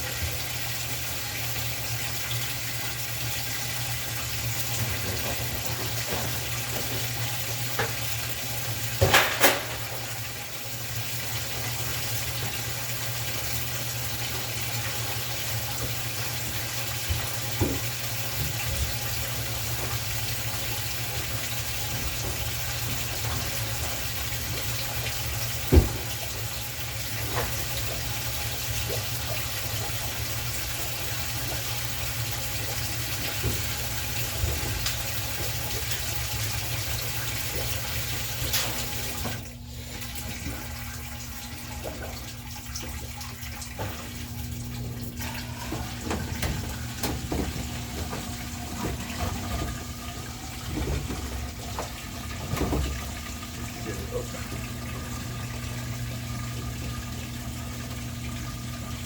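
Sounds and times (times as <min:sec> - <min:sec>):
water pouring into washer tub: 0:00.0 - 0:59.0.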